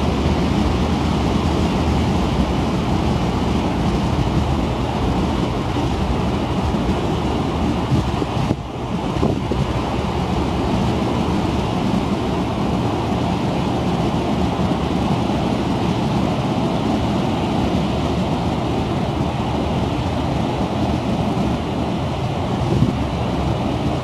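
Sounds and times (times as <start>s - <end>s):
ship engine running: 0.0s - 24.0s
wind buffeting microphone: 0.0s - 24.0s.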